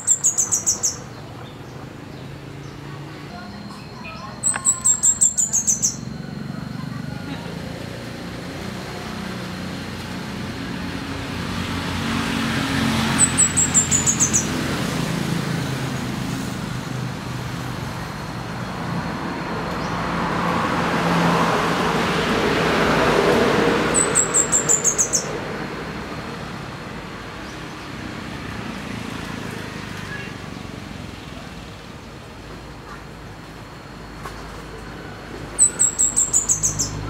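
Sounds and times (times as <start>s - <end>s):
road traffic passing: 0.0s - 37.0s.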